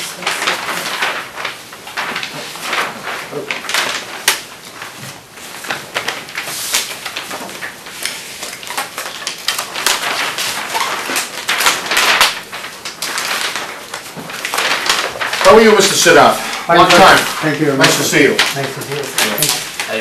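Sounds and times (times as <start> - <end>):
paper sheets rustling: 0.0 - 20.0.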